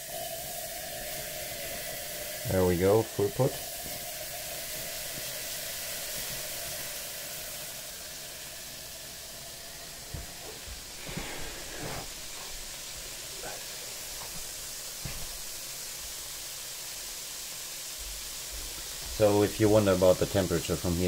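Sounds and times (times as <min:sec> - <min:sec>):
liquid nitrogen hissing: 0:00.0 - 0:21.0.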